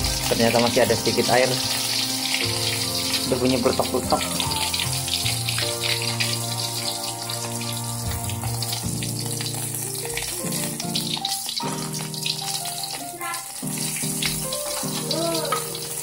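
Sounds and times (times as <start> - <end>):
background music with sustained notes: 0.0 - 16.0
fish sizzling in hot oil: 0.0 - 16.0
oil crackling pops: 0.0 - 16.0.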